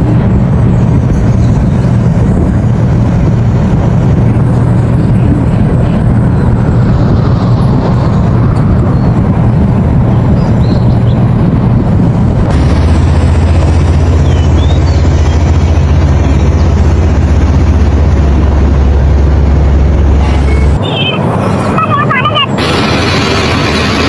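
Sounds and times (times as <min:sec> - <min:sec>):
excavator diesel engine rumbling: 0:00.0 - 0:24.0.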